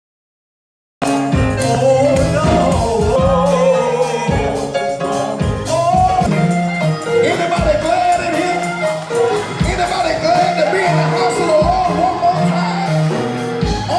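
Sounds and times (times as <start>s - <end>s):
gospel singing over a band: 1.2s - 13.9s.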